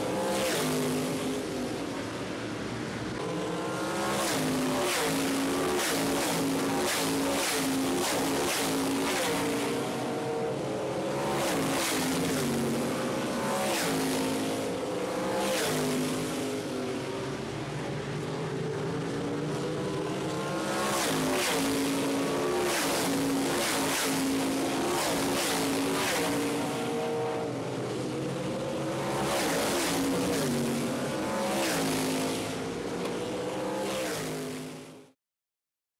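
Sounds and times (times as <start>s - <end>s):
race cars passing by: 0.0s - 35.1s
drone of race engines: 0.0s - 35.2s.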